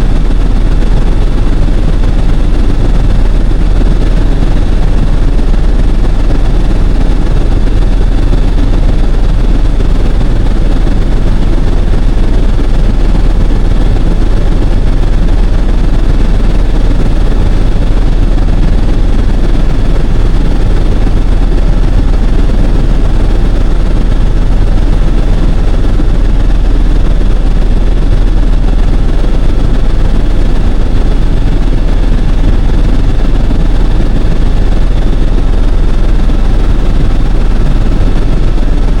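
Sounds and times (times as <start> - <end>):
helicopter engine and rotor rumble: 0.0 - 39.0.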